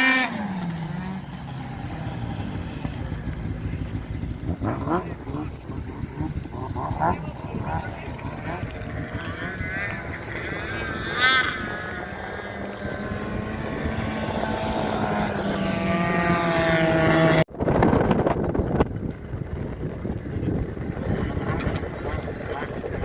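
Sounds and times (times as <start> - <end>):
motor engine running: 0.0 - 23.0.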